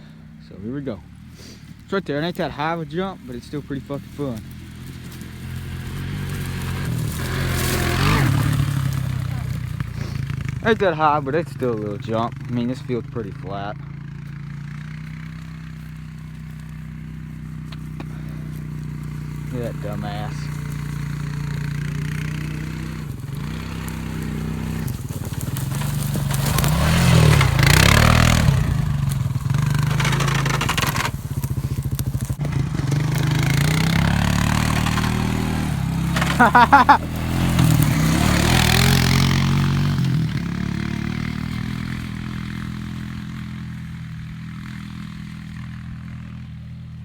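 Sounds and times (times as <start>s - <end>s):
atv engine revving: 0.0s - 47.0s.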